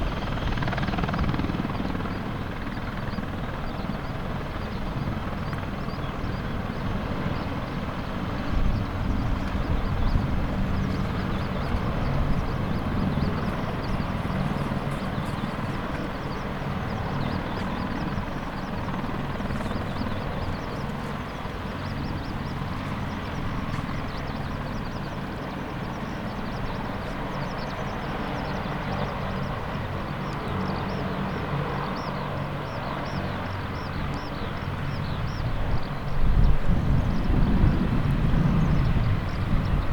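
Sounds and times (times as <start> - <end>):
helicopter engines and rotors: 0.0 - 39.9.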